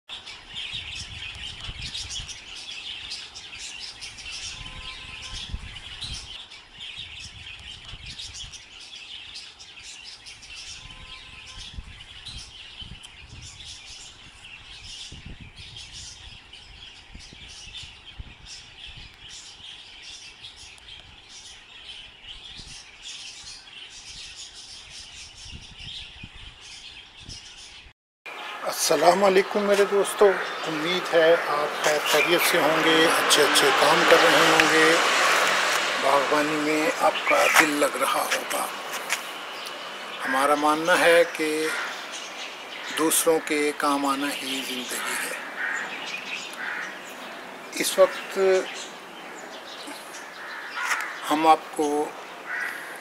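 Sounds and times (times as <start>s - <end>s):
birds chirping: 0.1s - 53.0s.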